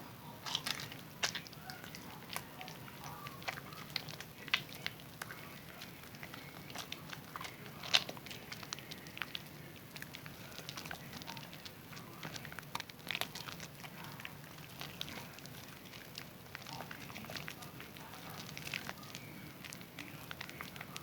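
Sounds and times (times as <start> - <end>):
soap lather crackling and squishing: 0.0 - 21.0.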